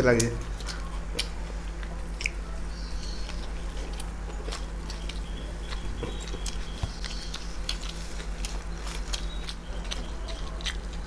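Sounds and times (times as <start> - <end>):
low electrical hum: 0.0 - 11.0
person chewing food: 0.4 - 11.0.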